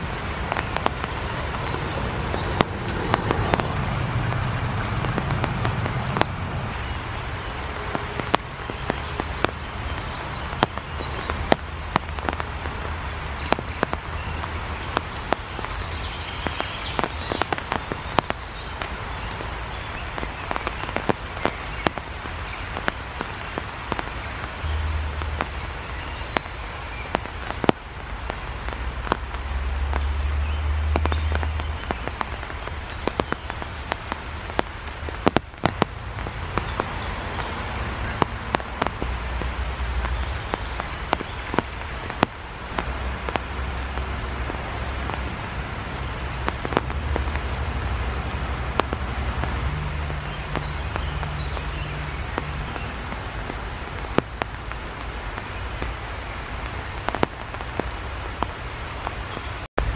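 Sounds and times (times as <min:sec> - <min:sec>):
raindrops clicking: 0:00.0 - 0:59.9
steady rain: 0:00.0 - 0:59.9.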